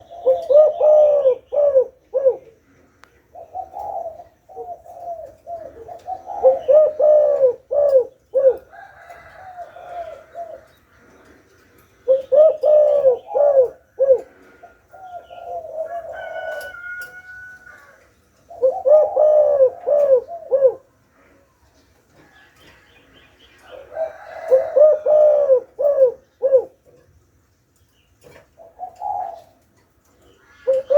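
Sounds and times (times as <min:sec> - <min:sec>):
dove cooing: 0:00.0 - 0:11.4, 0:12.0 - 0:21.5, 0:23.6 - 0:27.0, 0:28.2 - 0:30.9.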